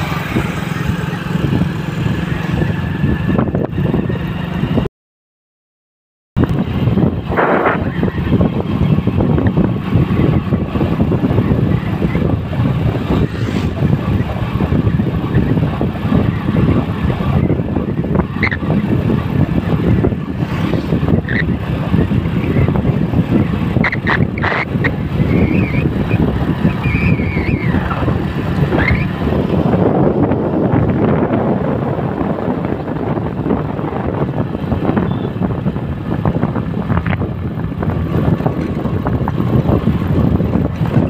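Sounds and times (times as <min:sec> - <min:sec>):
wind rush and road noise: 0:00.0 - 0:04.9, 0:06.4 - 0:41.0.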